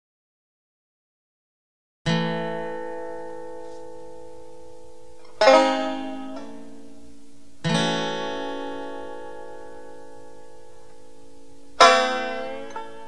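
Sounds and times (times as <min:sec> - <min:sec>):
plucked string chords ringing: 0:02.1 - 0:13.0.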